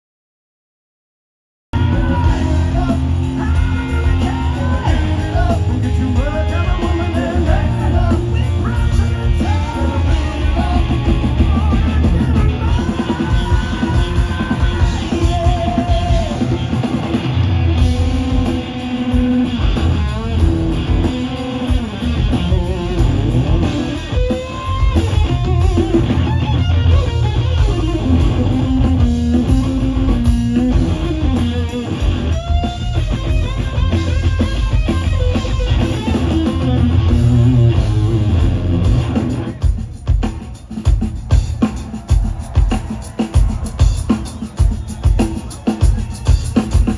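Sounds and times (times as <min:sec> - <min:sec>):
bass: 0:01.7 - 0:40.3
drums: 0:01.7 - 0:46.9
loud electric guitar: 0:01.8 - 0:46.9.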